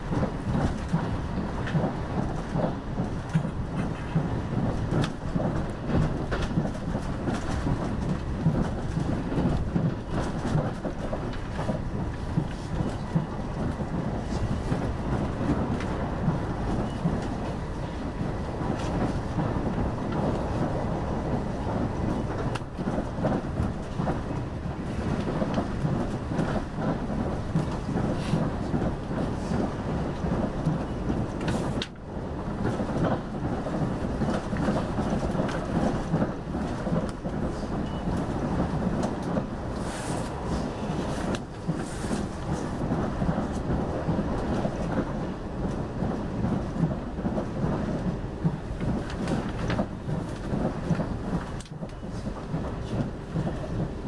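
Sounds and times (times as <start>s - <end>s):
train car hum: 0.0s - 54.0s
train wheels on rail: 0.0s - 54.0s.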